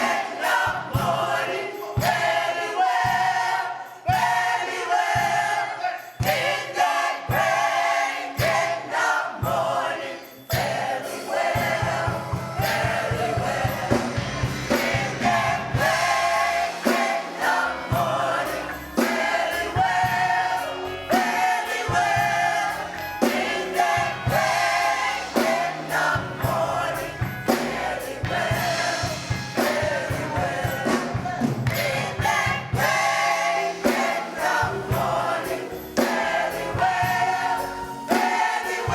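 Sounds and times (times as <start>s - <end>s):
gospel choir singing: 0.0s - 38.9s
instrumental accompaniment with beat: 0.0s - 38.9s.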